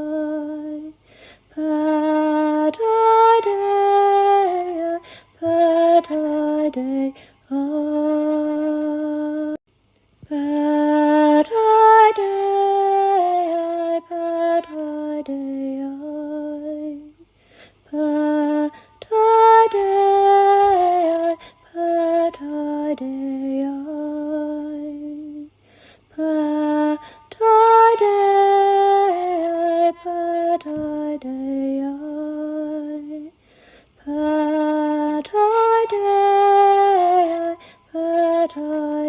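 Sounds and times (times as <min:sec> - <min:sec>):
woman singing: 0:00.0 - 0:09.6, 0:10.2 - 0:33.4, 0:34.0 - 0:39.0.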